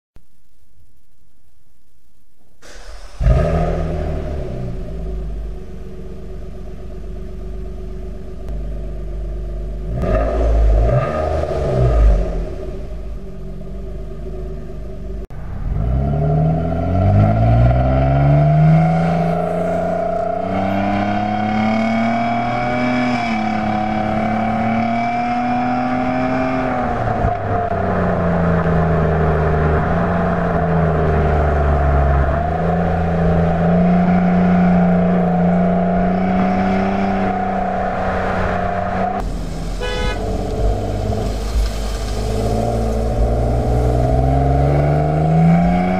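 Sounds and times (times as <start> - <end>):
car exhaust revving and accelerating: 2.6 - 45.9.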